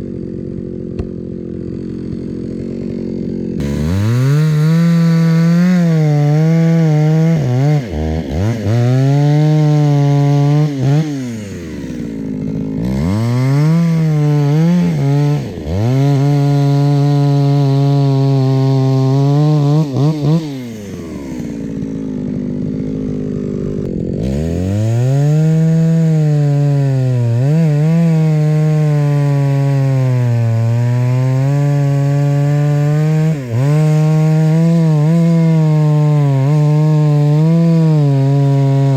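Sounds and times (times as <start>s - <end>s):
chainsaw cutting logs: 0.0s - 38.9s.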